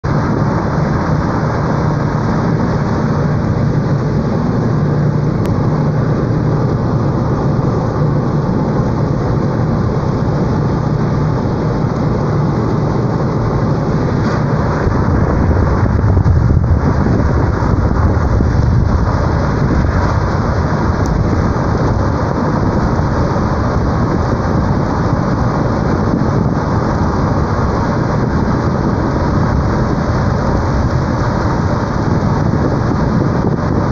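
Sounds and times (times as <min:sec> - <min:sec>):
strong storm wind rushing: 0:00.0 - 0:33.9.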